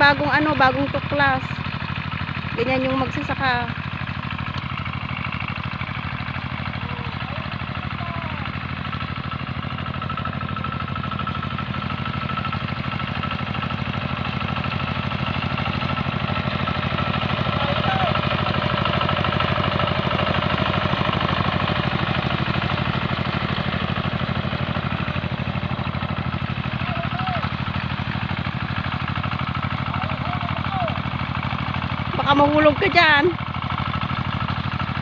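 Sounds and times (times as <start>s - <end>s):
hand tractor engine puttering: 0.0s - 35.0s.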